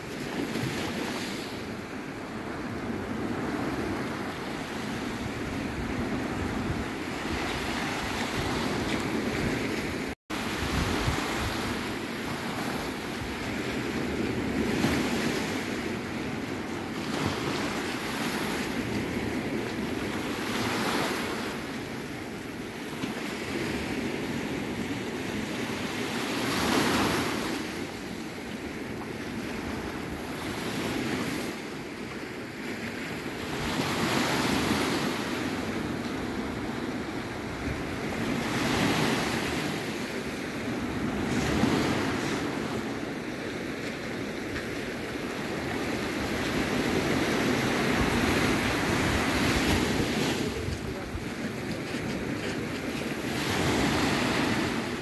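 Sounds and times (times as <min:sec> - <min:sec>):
waves washing onto sand: 0:00.0 - 0:55.0.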